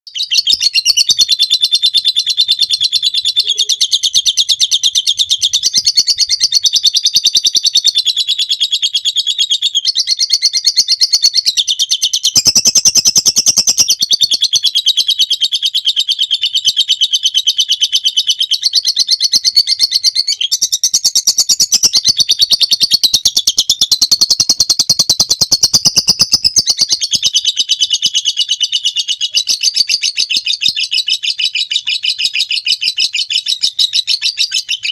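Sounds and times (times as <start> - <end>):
lovebird chattering trill: 0.1 - 34.9.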